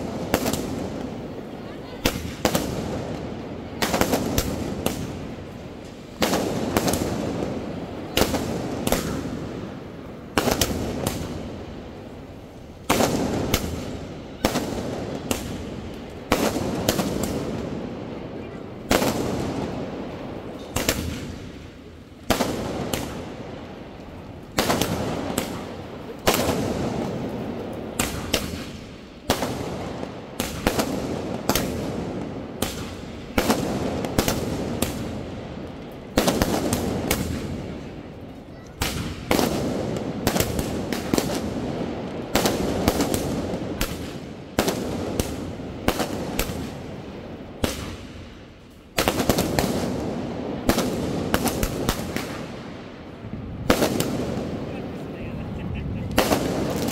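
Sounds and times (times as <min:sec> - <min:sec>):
fireworks bursting: 0:00.0 - 0:56.9.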